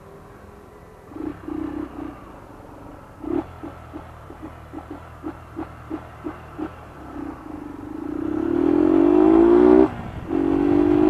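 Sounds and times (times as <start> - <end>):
motorcycle engine revving: 1.0 - 11.0.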